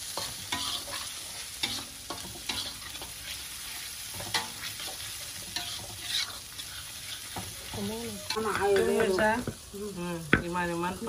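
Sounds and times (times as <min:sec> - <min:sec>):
spatula scraping and clinking on pan: 0:00.0 - 0:09.5
spice paste sizzling in oil: 0:00.0 - 0:11.0.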